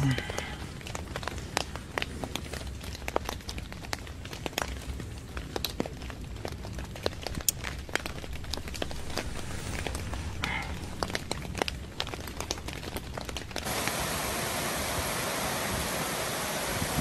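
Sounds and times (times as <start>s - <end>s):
raindrops tapping on tent fabric: 0.0s - 14.2s
steady low rumble: 0.0s - 17.0s.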